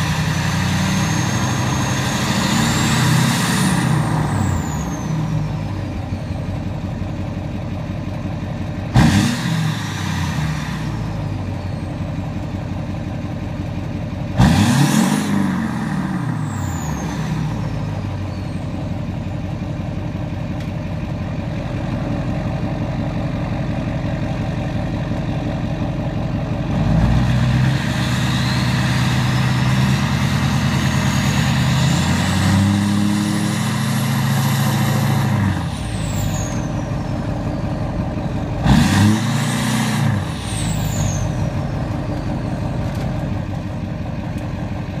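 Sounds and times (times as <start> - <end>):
diesel engine idling and revving: 0.0 - 45.0.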